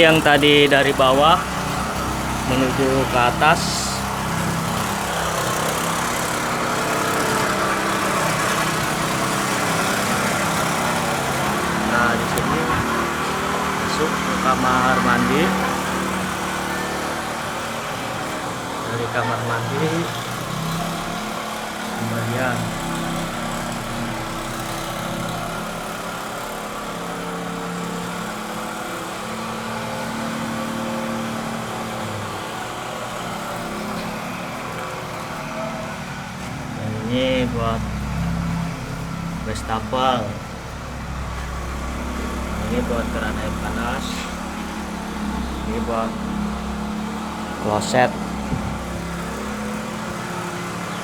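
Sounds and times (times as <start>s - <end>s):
motor running with low hum: 0.0s - 51.0s.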